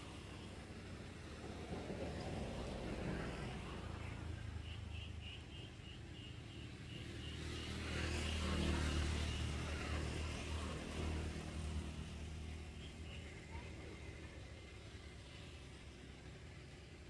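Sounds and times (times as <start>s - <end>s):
vehicle engine rumble passing: 0.0s - 17.0s.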